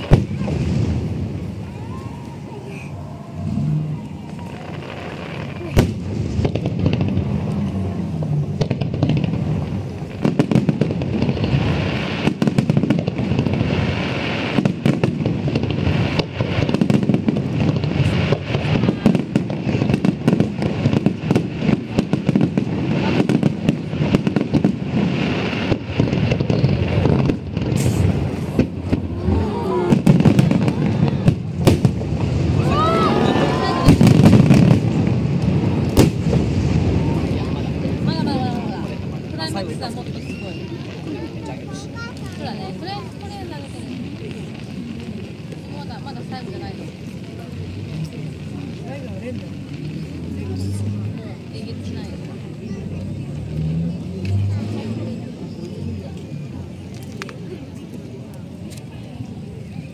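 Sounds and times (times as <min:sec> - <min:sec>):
firework bangs: 0:00.0 - 0:59.9
firework crackles: 0:00.0 - 0:59.9.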